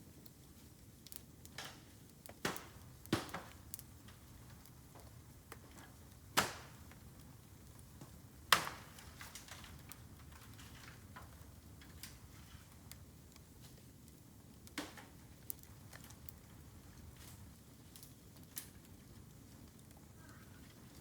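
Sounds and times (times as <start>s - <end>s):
bamboo burning with cracks and pops: 0.0s - 21.0s.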